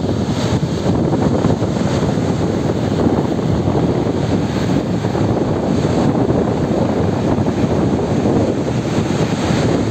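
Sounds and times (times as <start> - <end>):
water rushing through spillway: 0.0 - 9.9.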